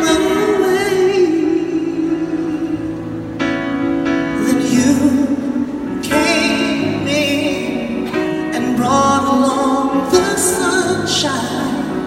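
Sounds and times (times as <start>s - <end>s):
person singing with vibrato: 0.0s - 3.3s, 4.2s - 12.0s.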